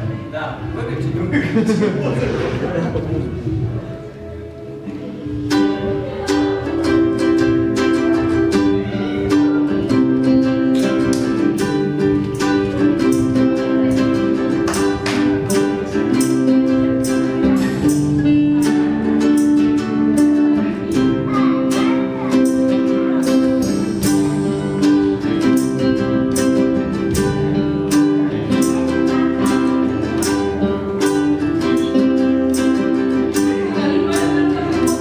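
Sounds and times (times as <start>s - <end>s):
acoustic guitars playing: 0.0s - 35.0s
high-pitched plucked string instrument: 3.2s - 35.0s.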